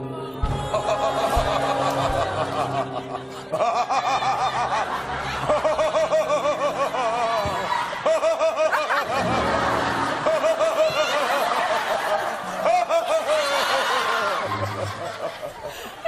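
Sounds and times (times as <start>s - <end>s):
person laughing hard: 0.6s - 16.0s.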